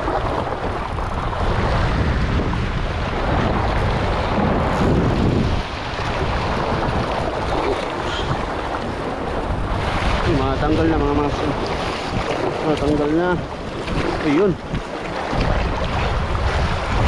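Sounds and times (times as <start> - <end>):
waves washing against rocks: 0.0 - 17.0
wind buffeting microphone: 0.0 - 17.0.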